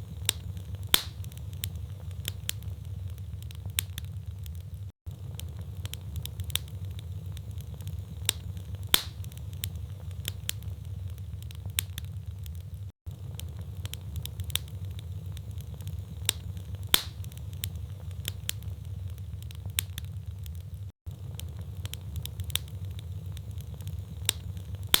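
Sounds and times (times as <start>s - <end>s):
logs crackling and popping: 0.0s - 25.0s
low rumble of flame: 0.0s - 25.0s.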